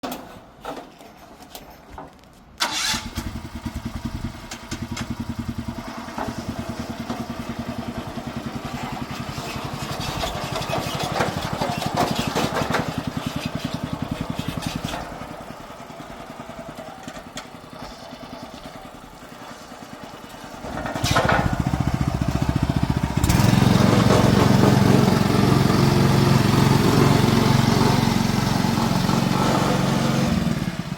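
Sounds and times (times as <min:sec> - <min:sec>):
small engine running: 0:02.7 - 0:30.9.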